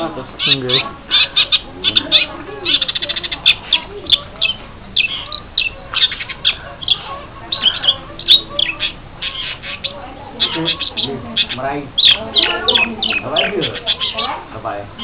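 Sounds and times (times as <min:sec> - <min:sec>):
shrike calling: 0:00.0 - 0:15.0.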